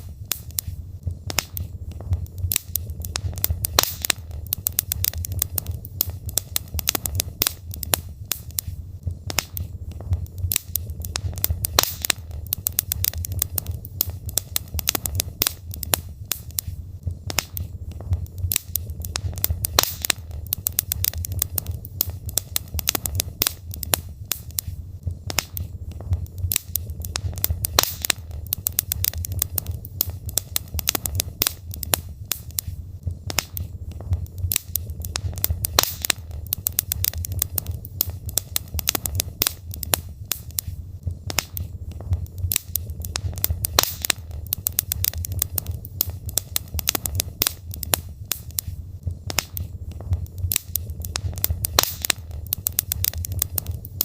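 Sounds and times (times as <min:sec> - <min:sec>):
burning wood crackling and popping: 0:00.0 - 0:54.0
low rumble of flames: 0:00.0 - 0:54.0.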